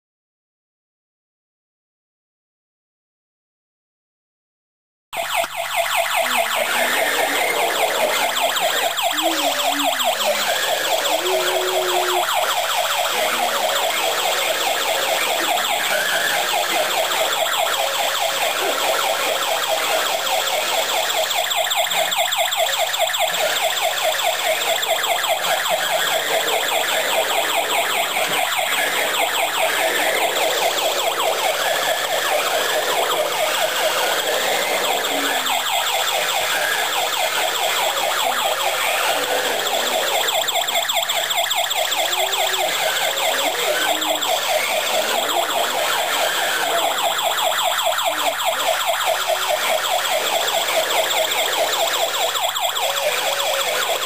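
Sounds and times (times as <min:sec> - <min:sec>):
toy electronic siren warbling: 0:05.2 - 0:54.0.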